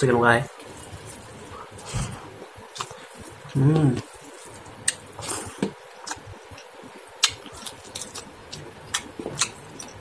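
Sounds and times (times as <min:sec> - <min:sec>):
chewing with wet smacks: 0:00.6 - 0:10.0.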